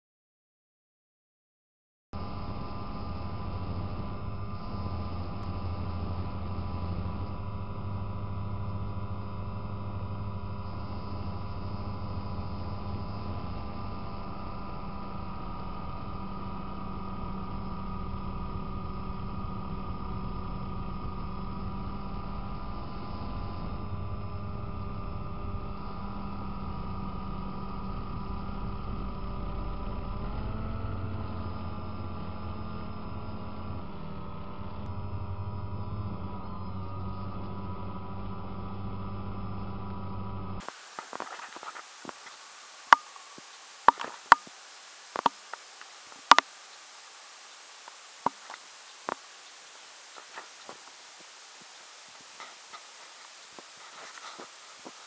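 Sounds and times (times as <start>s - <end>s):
drone motors and propellers humming: 2.2s - 55.0s.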